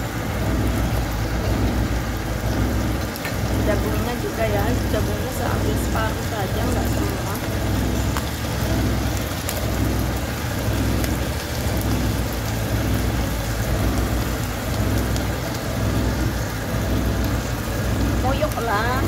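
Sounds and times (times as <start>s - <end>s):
food sizzling in hot oil: 0.0s - 19.0s
low hum: 0.0s - 19.0s.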